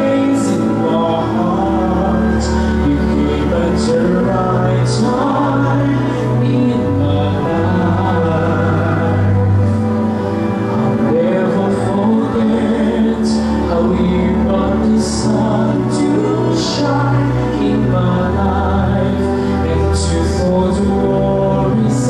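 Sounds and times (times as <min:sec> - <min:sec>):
two men singing a duet: 0:00.0 - 0:10.2, 0:10.9 - 0:22.0
musical accompaniment with bass: 0:00.0 - 0:22.0.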